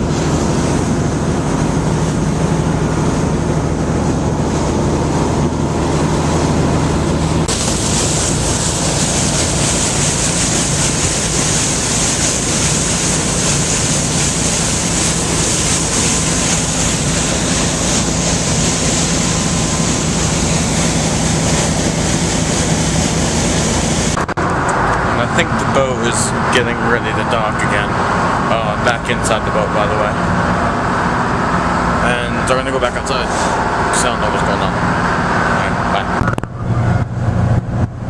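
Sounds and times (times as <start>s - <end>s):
boat engine humming: 0.0s - 38.0s
wind and water rushing: 0.0s - 38.0s.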